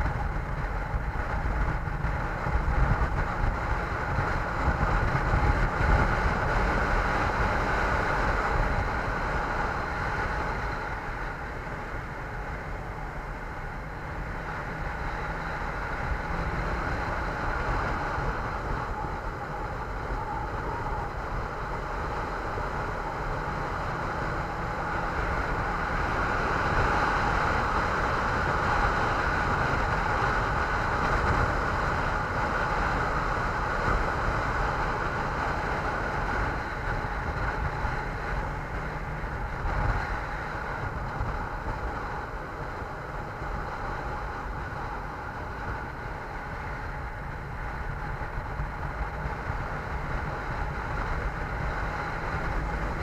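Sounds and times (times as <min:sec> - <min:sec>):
vehicle running noise: 0:00.0 - 0:53.0
wind rumble on microphone: 0:00.0 - 0:53.0.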